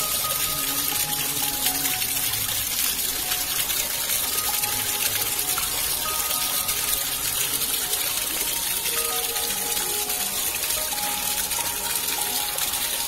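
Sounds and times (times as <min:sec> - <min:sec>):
water gushing and splashing: 0:00.0 - 0:13.0.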